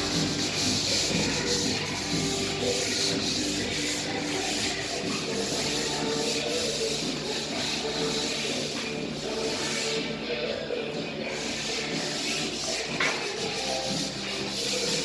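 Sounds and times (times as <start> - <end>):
sanding drywall: 0.0 - 10.1, 11.3 - 15.0.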